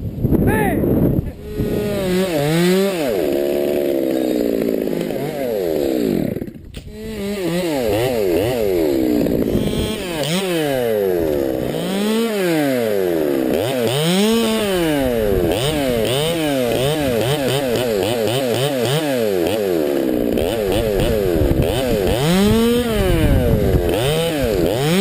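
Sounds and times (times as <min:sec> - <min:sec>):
chainsaw cutting wood: 0:01.3 - 0:25.0.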